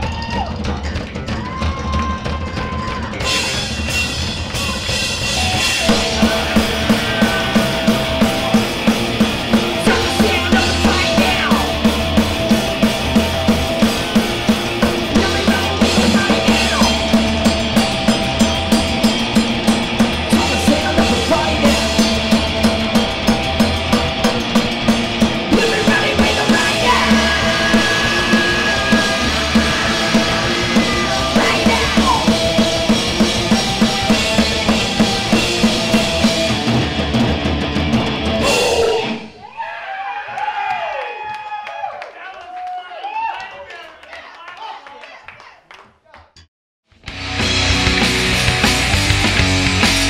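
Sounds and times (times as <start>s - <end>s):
drum kit pounding: 0.0s - 39.4s, 46.9s - 50.0s
punk rock band playing live: 0.0s - 39.4s, 47.0s - 50.0s.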